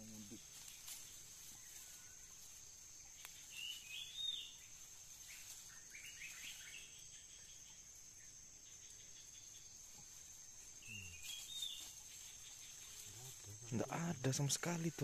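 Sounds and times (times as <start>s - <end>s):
insects buzzing: 0.0s - 15.0s
bird chirping: 1.0s - 15.0s.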